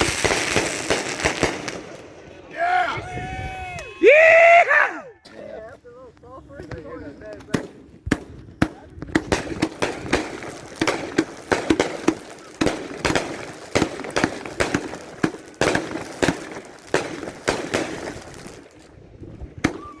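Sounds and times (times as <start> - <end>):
fireworks bangs and cracks: 0.0 - 2.6, 6.1 - 20.0
fireworks crackling: 0.0 - 20.0.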